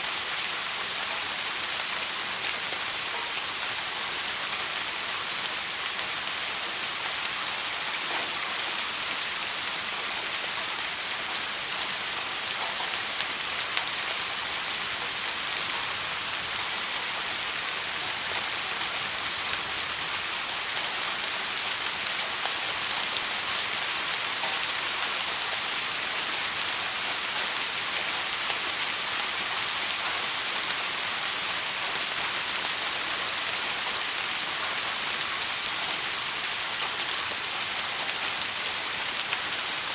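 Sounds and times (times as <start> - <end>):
steady soft rain: 0.0 - 39.9.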